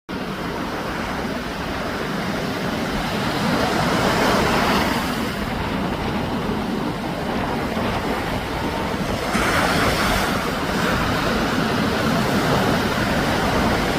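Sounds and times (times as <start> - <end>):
sea waves breaking on shore: 0.1 - 13.9
wind on microphone: 0.1 - 13.9.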